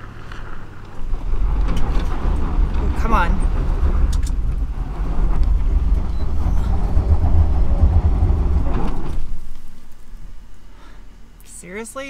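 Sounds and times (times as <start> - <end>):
tires scrabbling on dirt: 0.0 - 10.7
engine rumbling uphill: 0.0 - 11.4.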